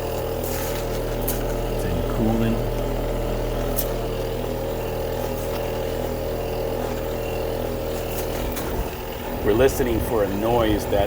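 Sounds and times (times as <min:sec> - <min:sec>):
compressor humming: 0:00.0 - 0:11.0.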